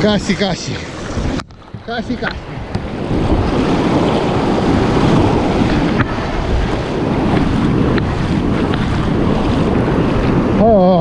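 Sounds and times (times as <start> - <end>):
breaking sea surf: 0.0 - 11.0
wind buffeting microphone: 0.0 - 11.0.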